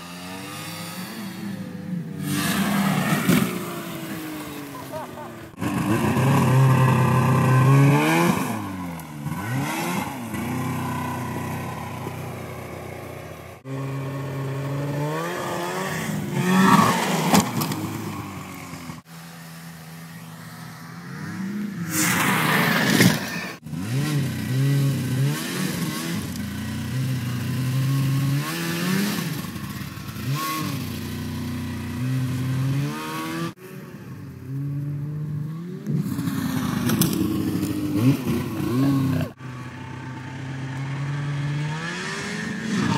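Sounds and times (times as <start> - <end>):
snowmobile engines revving: 0.0 - 42.9.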